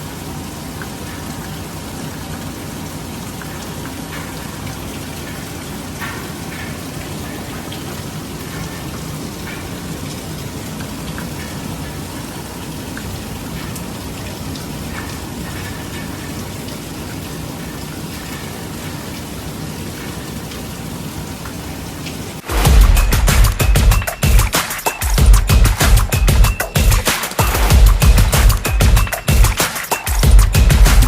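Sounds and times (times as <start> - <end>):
heavy rain falling: 0.0 - 31.0
raindrops pattering on surfaces: 0.0 - 31.0.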